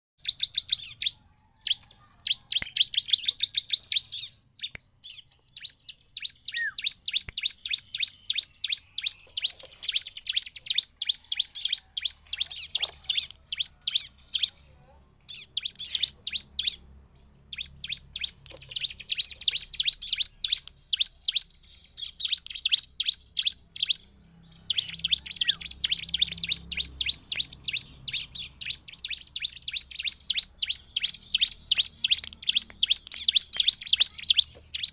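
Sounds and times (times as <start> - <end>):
bird singing rapid chip notes: 0.2 - 34.9.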